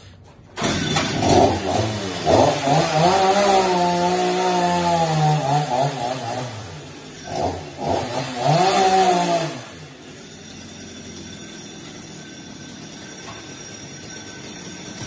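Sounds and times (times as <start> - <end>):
chainsaw revving and idling: 0.6 - 15.0.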